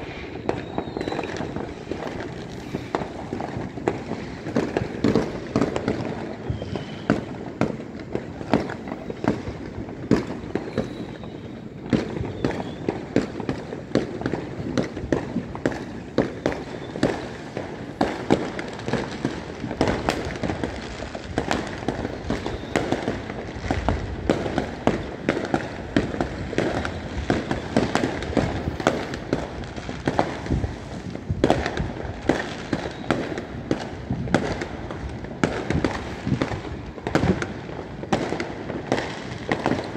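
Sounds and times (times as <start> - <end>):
fireworks bangs and cracks: 0.0 - 39.9.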